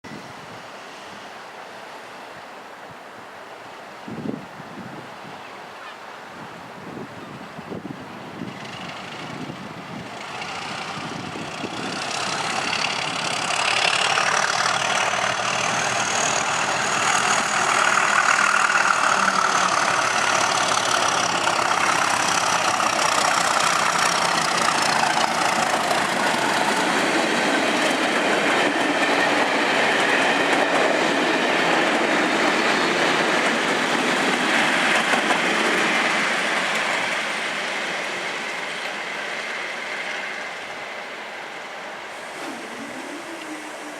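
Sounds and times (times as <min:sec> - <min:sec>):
diesel locomotives at full power: 0:07.5 - 0:43.9.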